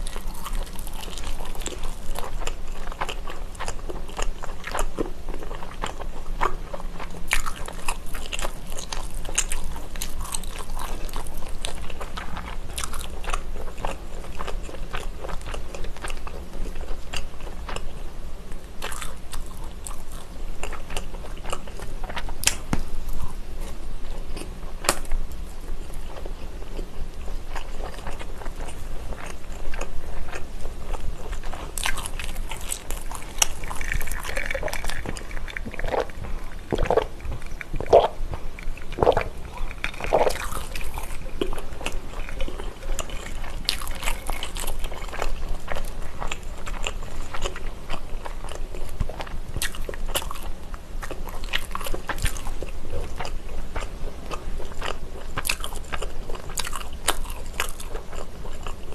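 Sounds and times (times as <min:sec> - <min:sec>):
crunchy biting and chewing: 0:00.0 - 0:58.9.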